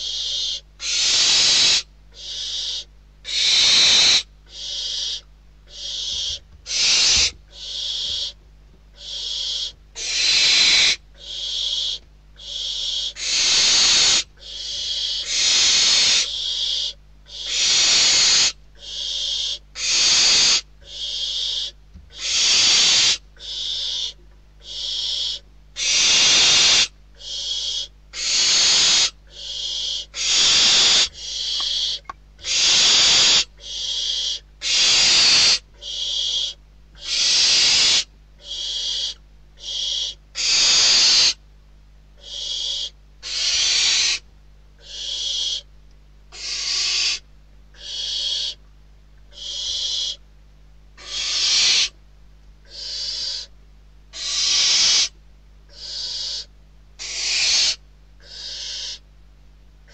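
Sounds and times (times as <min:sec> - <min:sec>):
owl nestlings hissing begging calls: 0:00.0 - 0:41.4, 0:42.2 - 0:45.7, 0:46.3 - 0:48.6, 0:49.3 - 0:50.2, 0:51.0 - 0:52.0, 0:52.6 - 0:53.5, 0:54.1 - 0:59.0.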